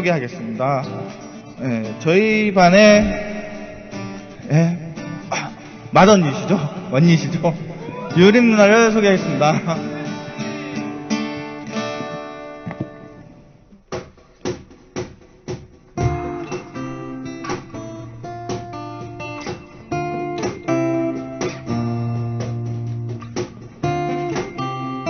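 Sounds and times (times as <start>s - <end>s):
acoustic guitar strumming: 0.0s - 25.0s
muted guitar strokes: 0.8s - 25.0s.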